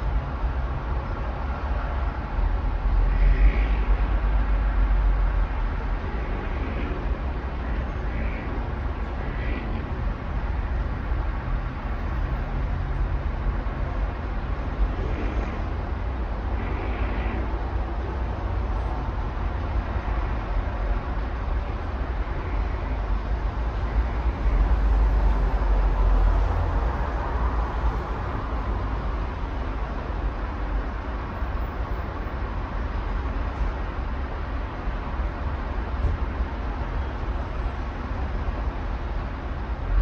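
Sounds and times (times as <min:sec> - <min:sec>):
distant traffic rumble: 0:00.0 - 0:40.0.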